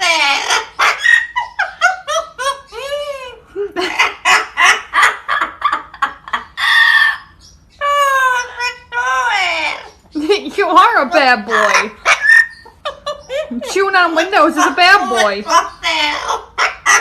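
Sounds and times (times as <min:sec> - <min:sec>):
parrot squawking: 0:00.0 - 0:17.0.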